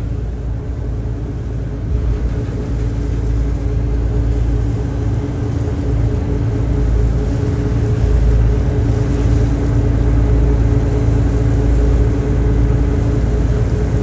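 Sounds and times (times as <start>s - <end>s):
ship diesel engines droning: 0.0s - 14.0s.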